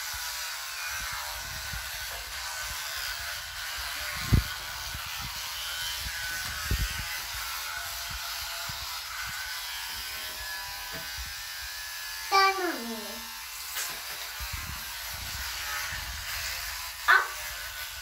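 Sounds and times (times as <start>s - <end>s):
electric toothbrush buzzing: 0.0s - 18.0s.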